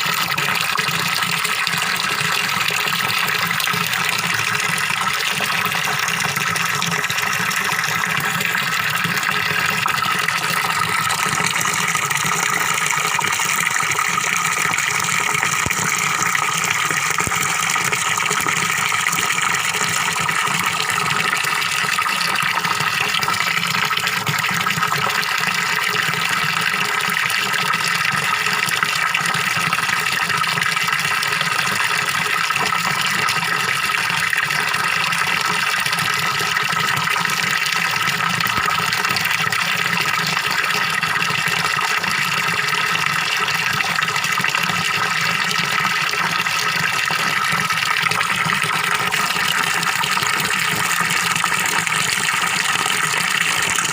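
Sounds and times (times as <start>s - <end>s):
waterfall splashing into pond: 0.0s - 53.9s.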